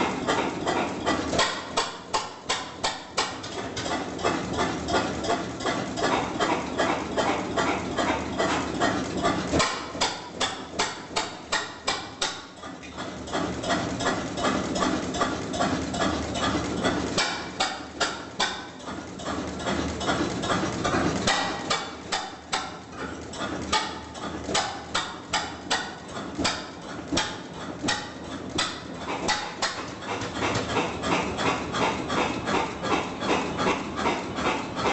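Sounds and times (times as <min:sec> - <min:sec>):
stationary engine knocking: 0:00.0 - 0:34.9.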